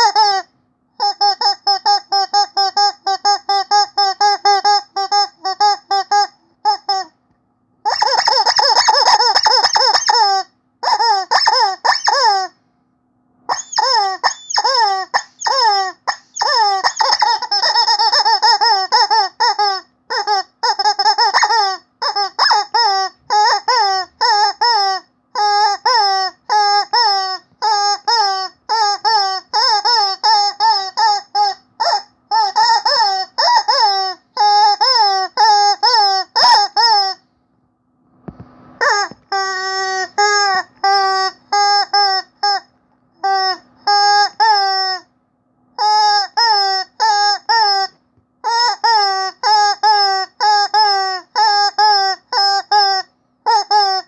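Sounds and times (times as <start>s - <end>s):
rubber chicken toy squeaking: 0.0s - 7.2s, 7.8s - 12.6s, 13.5s - 37.2s, 38.8s - 45.1s, 45.8s - 54.0s.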